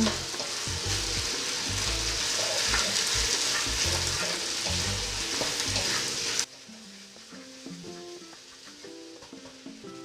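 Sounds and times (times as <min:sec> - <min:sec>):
meat and onion sizzling in wok: 0:00.0 - 0:10.0.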